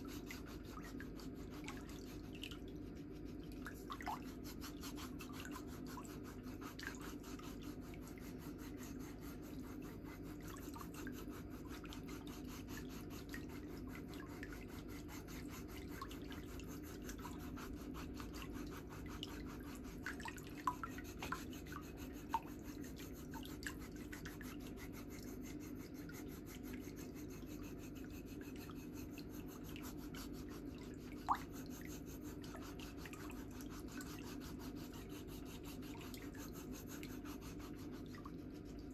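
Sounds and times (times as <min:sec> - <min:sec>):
foot file scraping skin: 0:04.2 - 0:38.8.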